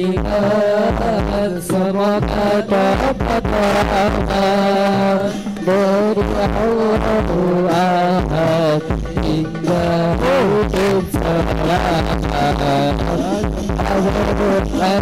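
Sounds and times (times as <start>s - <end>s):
hand drum beats: 0.0s - 15.0s
solo voice singing: 0.0s - 15.0s.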